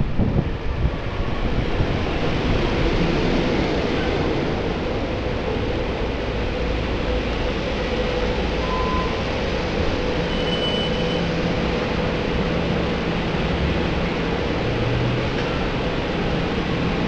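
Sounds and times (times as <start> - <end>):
electric railcar moving slowly: 0.0 - 17.0.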